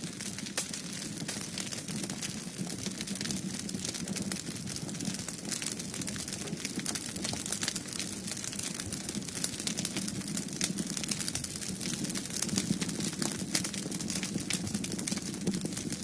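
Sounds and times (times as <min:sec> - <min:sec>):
fire pops and snaps: 0:00.0 - 0:16.0
low rumble of flame: 0:00.0 - 0:16.0
wood fire crackling: 0:00.0 - 0:16.0.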